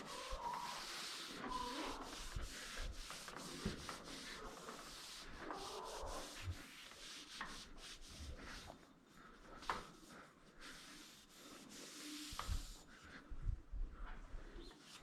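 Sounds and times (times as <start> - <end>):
scrubbing a pipe: 0.0 - 13.4, 14.0 - 15.0.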